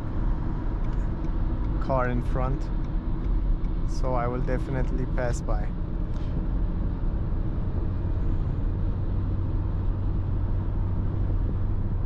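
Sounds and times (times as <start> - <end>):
engine low hum: 0.0 - 12.0.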